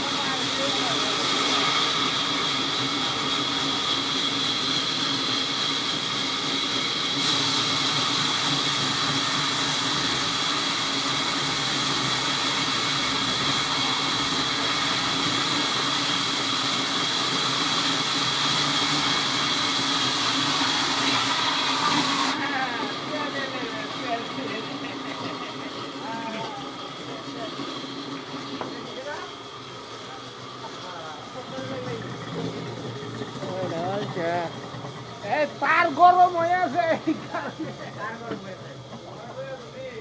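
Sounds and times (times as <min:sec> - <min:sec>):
sawmill saw whining: 0:00.0 - 0:40.0.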